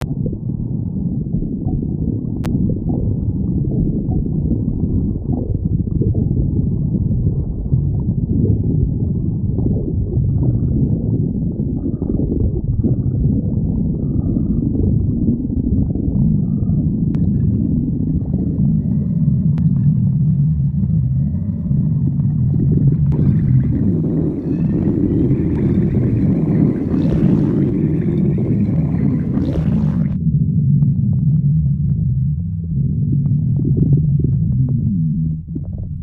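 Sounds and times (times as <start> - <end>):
stomach growling: 0.0 - 36.0.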